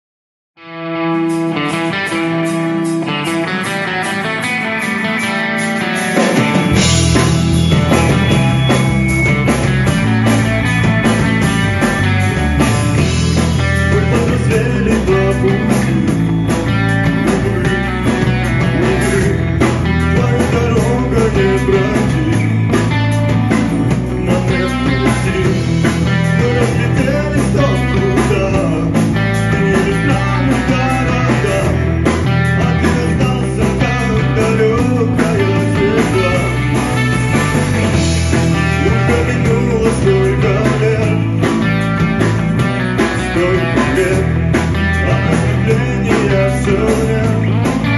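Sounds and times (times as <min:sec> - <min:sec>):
electric bass: 0:00.6 - 0:47.9
electric guitar: 0:00.6 - 0:47.9
drum kit: 0:01.0 - 0:47.9.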